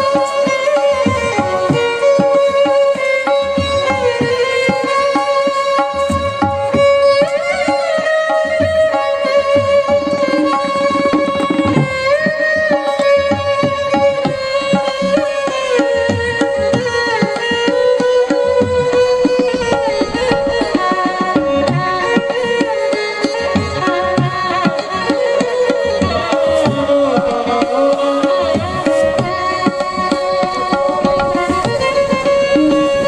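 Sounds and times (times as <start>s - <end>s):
hand drum strokes: 0.0s - 7.8s, 8.4s - 33.0s.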